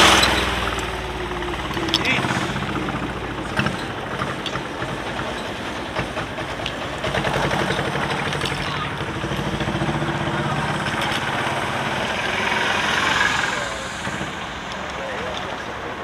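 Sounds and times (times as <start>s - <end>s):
small engine running: 0.0s - 15.3s.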